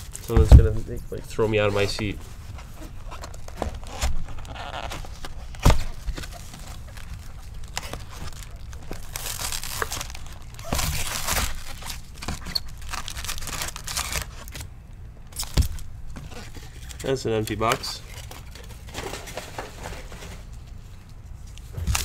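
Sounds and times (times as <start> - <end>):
wrapping crinkling and tearing: 1.7 - 14.7, 15.3 - 20.5, 21.5 - 22.0.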